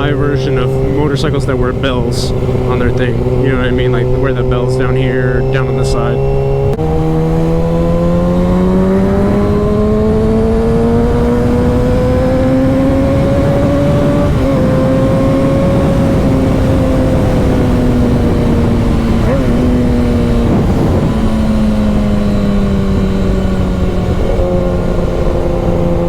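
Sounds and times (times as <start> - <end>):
motorcycle engine accelerating: 0.0 - 26.0
wind rushing over microphone: 0.0 - 26.0.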